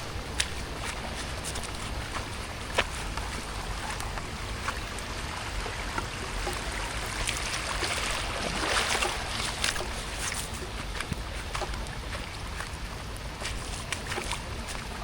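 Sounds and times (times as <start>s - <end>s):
drips and splashes: 0.0s - 15.0s.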